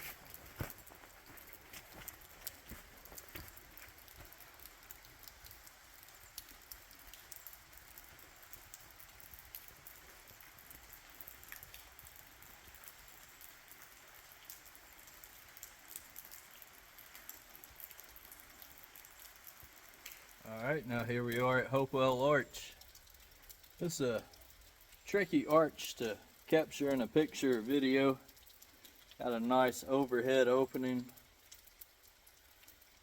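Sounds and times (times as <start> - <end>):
light rain falling: 0.0 - 33.0.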